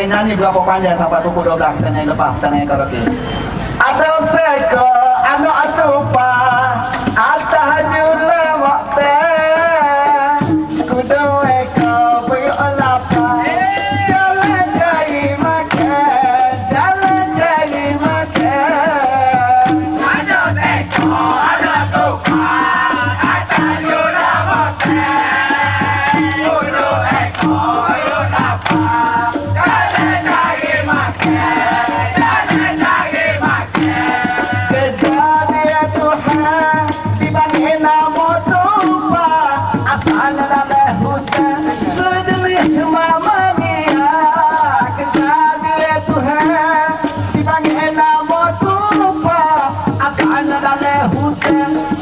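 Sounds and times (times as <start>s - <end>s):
live band playing: 0.0s - 3.9s, 5.8s - 52.0s
shaken rattle percussion: 5.2s - 52.0s.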